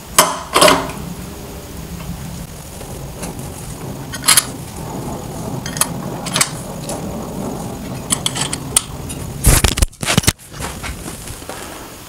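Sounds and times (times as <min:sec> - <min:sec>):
low hum: 0:00.0 - 0:12.0
metal clatter: 0:00.2 - 0:11.8.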